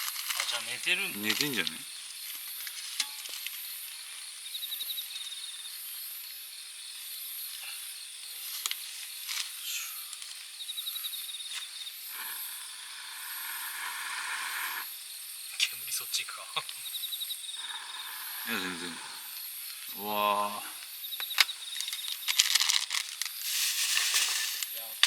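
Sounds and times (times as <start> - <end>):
campfire hissing and popping: 0.0 - 4.4, 7.4 - 10.6, 11.5 - 16.9, 17.6 - 25.0
buzzing insect trill: 0.0 - 25.0
insects chirping: 0.0 - 25.0.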